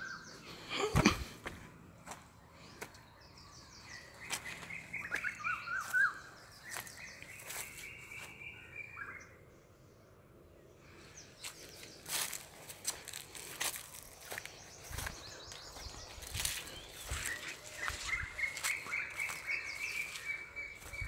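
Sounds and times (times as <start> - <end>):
birds calling and chirping: 0.0 - 21.0.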